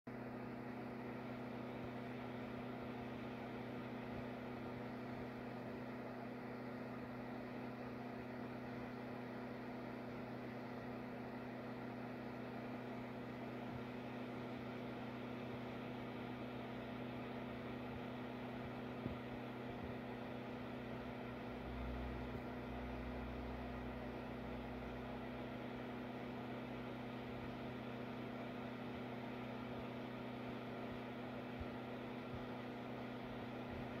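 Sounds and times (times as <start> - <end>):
low electrical hum: 0.1 - 34.0.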